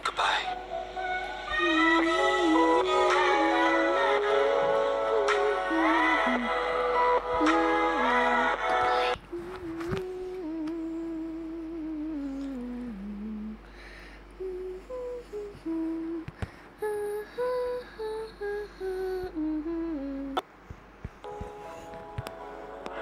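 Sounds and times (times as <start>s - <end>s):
person humming a slow tune: 0.5s - 20.4s.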